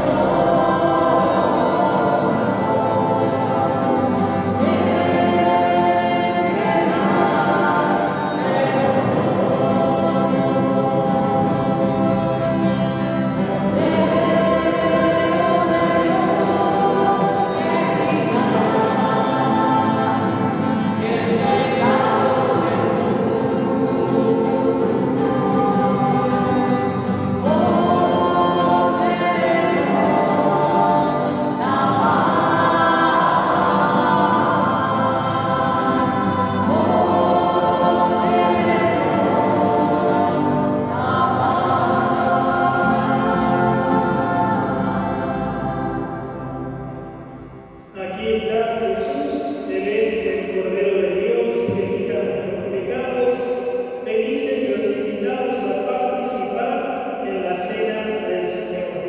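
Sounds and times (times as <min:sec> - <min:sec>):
choir singing a slow hymn: 0:00.0 - 0:59.0.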